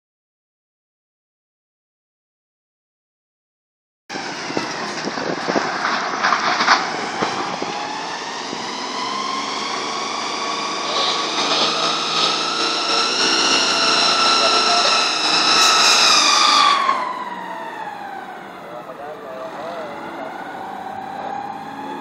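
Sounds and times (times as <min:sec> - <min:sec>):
dump truck engine whine: 0:04.1 - 0:22.0.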